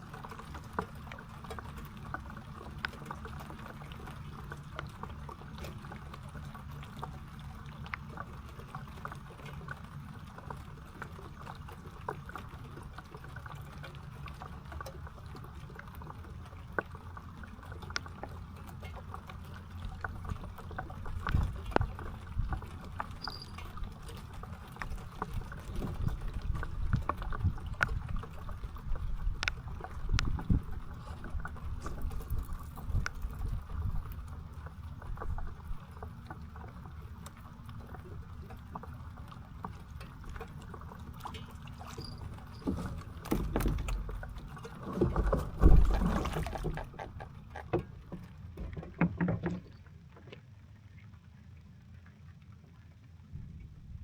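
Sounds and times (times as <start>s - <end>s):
water sloshing and splashing: 0.0s - 54.0s.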